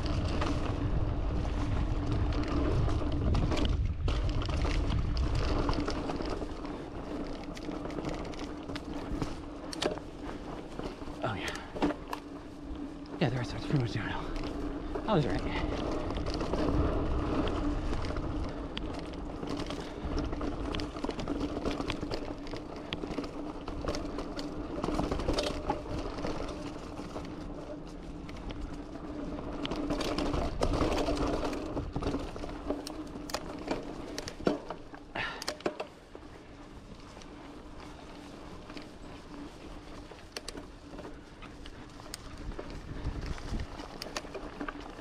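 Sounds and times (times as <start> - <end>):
bike rattling over bumps: 0.0 - 45.0
bike tyres rolling on dirt: 0.0 - 45.0.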